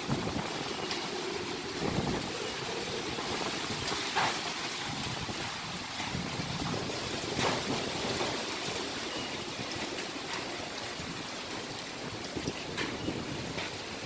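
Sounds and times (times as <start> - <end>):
strong gusting wind: 0.0 - 14.0.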